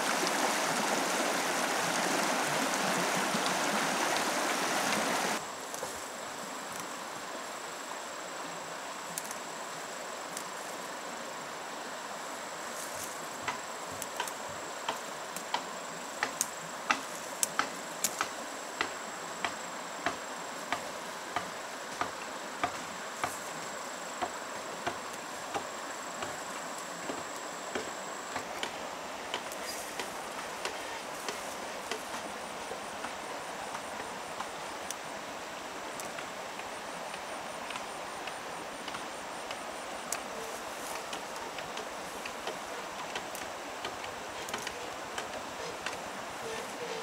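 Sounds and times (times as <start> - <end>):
faint outdoor noise: 0.0 - 47.0
insects trilling: 0.0 - 47.0
stream water rushing: 0.0 - 47.0.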